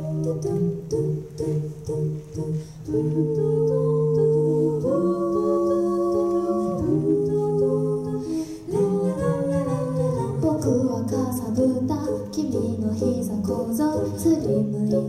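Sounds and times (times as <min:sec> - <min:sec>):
a cappella group singing chords: 0:00.0 - 0:15.0.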